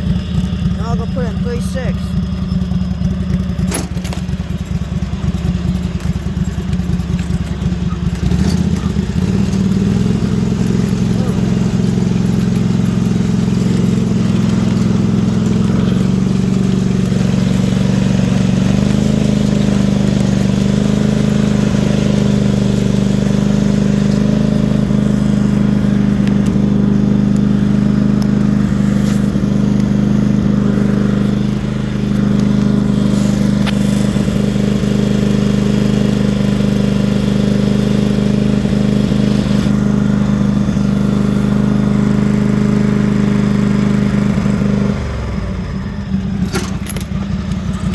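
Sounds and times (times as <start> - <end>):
lawn mower engine running: 0.0 - 47.9.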